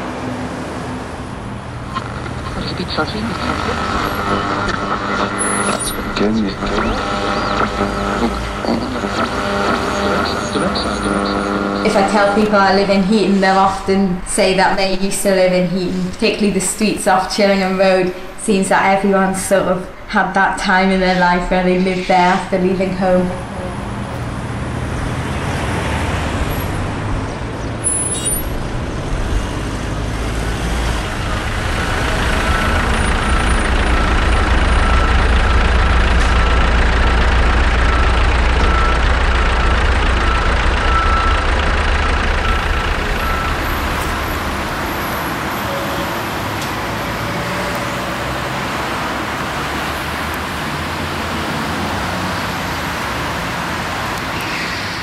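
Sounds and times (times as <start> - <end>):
heavy vehicle engine rumble: 0.0 - 55.0
road traffic: 0.0 - 55.0.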